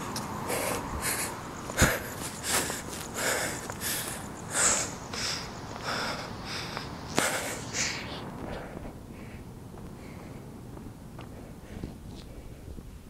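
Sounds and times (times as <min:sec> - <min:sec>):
man breathing hard: 0:00.3 - 0:12.8.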